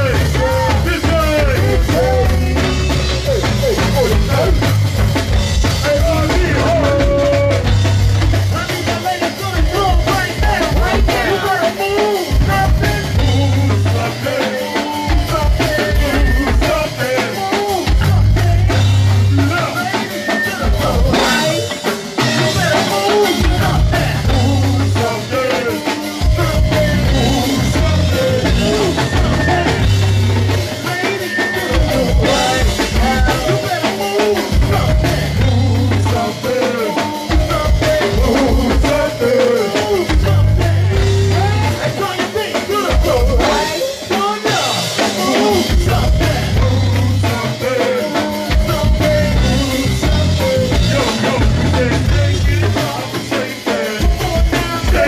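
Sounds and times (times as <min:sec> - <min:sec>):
person singing into a microphone: 0:00.0 - 0:04.8, 0:05.7 - 0:07.9, 0:08.5 - 0:55.0
heavy bass line: 0:00.0 - 0:14.4, 0:15.1 - 0:19.9, 0:20.5 - 0:25.6, 0:26.2 - 0:43.8, 0:44.5 - 0:47.8, 0:48.5 - 0:53.4
drum kit: 0:00.0 - 0:55.0
live band playing: 0:00.0 - 0:55.0
timbales and congas: 0:00.0 - 0:55.0.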